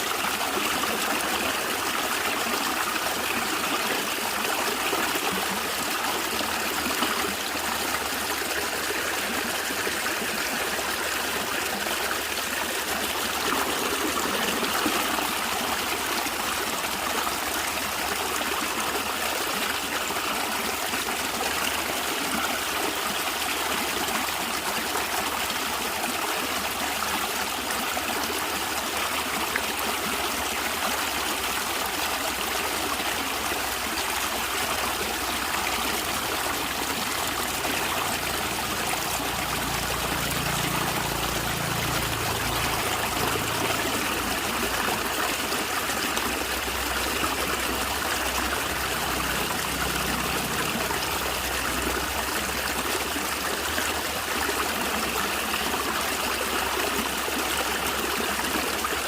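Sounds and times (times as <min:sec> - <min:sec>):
stream gurgling over stones: 0:00.0 - 0:59.0.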